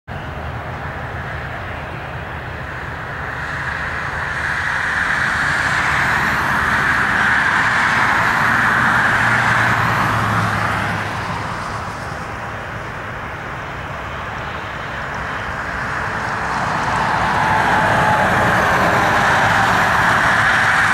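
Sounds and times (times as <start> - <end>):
distant jet engine noise: 0.1 - 20.9
car passing by: 0.4 - 20.9.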